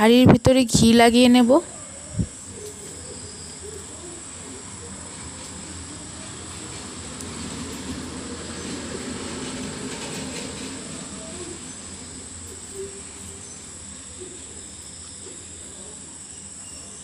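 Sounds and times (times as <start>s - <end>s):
background hum: 0.0s - 17.0s
thin high whine: 0.0s - 17.0s.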